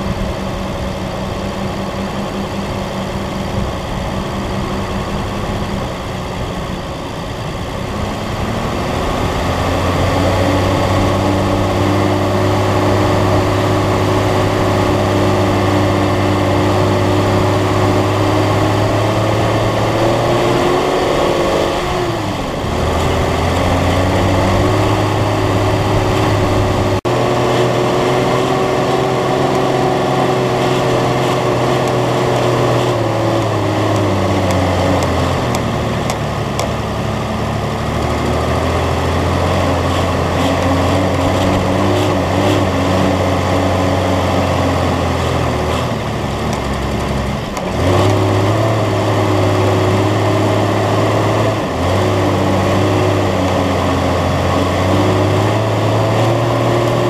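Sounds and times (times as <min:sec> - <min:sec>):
engine running under load: 0:00.0 - 0:57.0.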